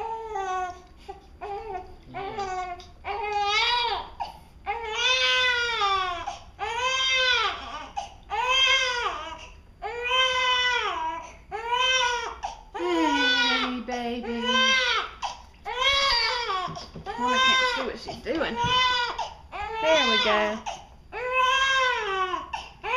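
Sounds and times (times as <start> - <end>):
baby crying: 1.4 - 22.9.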